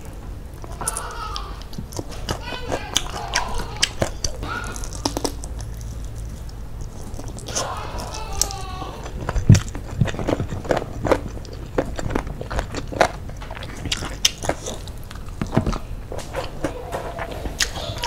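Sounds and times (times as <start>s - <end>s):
chewing and wet mouth sounds: 0.0s - 18.0s.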